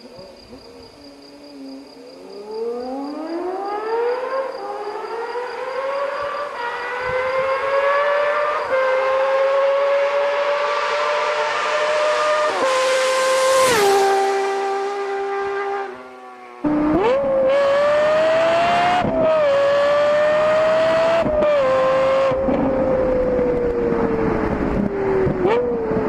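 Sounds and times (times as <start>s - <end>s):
high-revving engine accelerating: 2.2s - 26.0s.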